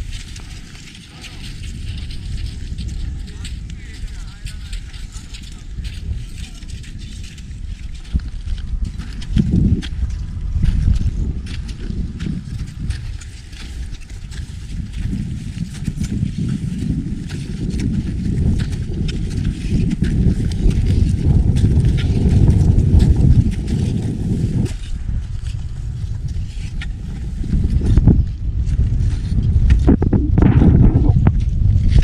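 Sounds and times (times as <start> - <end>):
boots crunching in snow: 0.0 - 28.0
wind rumbling on microphone: 0.0 - 32.0.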